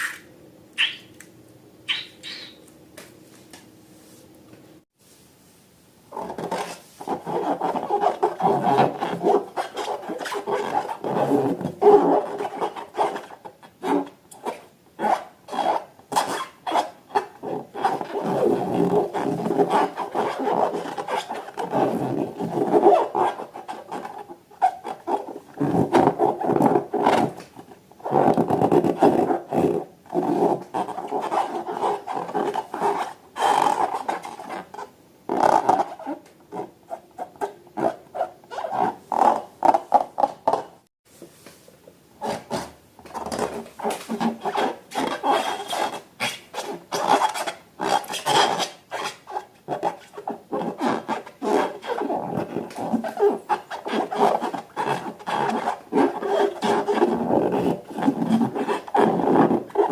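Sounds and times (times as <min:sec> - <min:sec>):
rubbery rubbing and squeezing: 0:06.1 - 0:40.9, 0:42.2 - 0:59.9.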